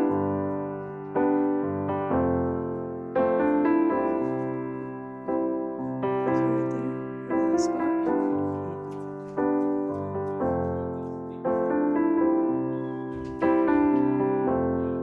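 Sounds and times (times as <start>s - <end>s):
slow solo piano chords: 0.0s - 15.0s.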